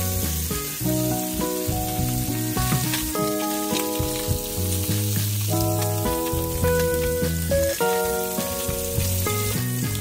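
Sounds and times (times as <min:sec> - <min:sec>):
fish sizzling in a pan: 0:00.0 - 0:10.0
instrumental background music: 0:00.0 - 0:10.0.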